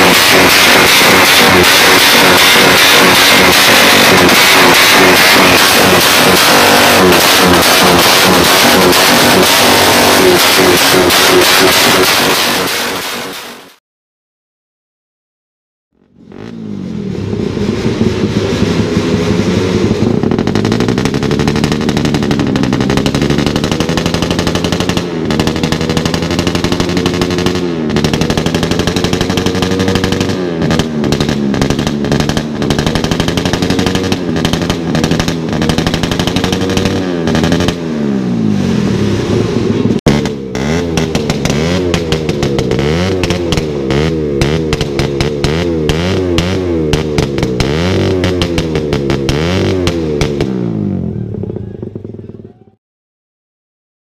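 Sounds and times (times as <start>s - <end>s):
motorcycle engine revving: 0.0s - 13.8s, 15.9s - 52.8s.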